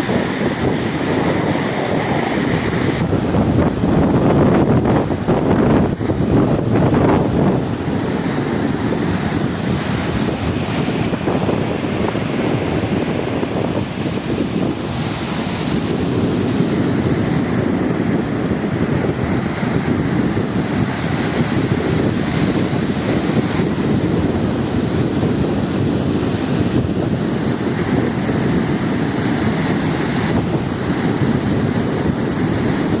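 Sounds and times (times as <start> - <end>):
sea rushing: 0.0 - 33.0
wind buffeting microphone: 0.0 - 33.0.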